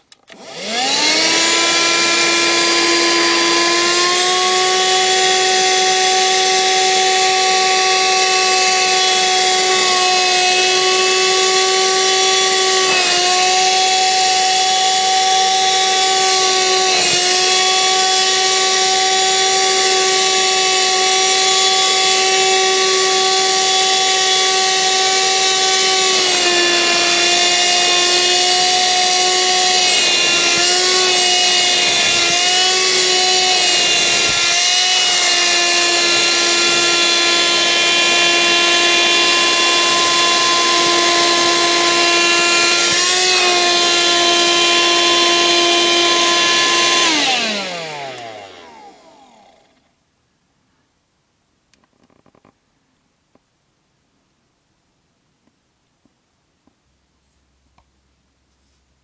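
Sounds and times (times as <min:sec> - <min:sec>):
car vacuum motor whine: 0:00.0 - 0:49.9.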